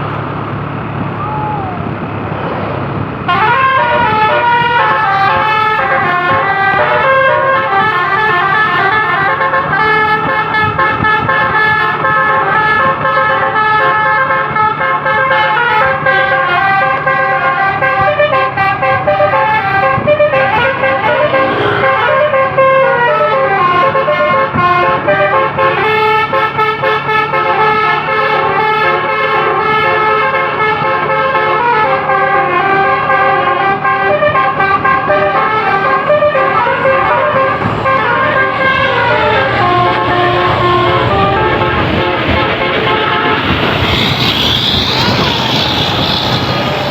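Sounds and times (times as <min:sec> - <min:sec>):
multi-trumpet air horn tune: 0:03.3 - 0:46.9.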